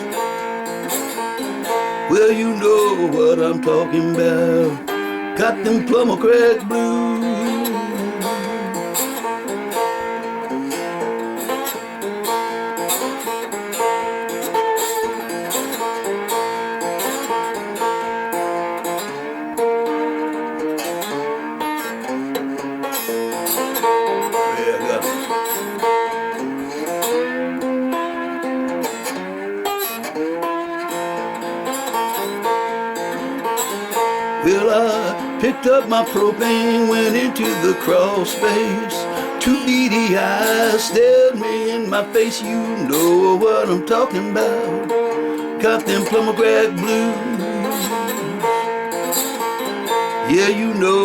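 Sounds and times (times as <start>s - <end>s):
plucked string blues notes: 0.0s - 51.0s.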